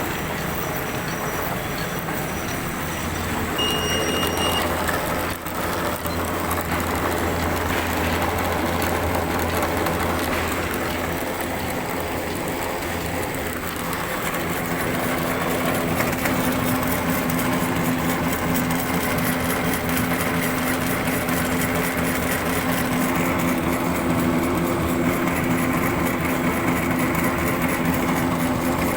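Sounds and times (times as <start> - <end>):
small engine running: 0.0 - 28.9.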